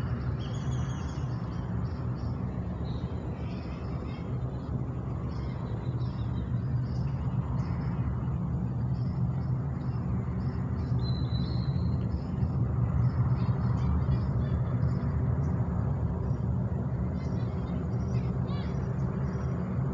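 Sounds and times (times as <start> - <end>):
distant jet engines rumbling: 0.0 - 19.9.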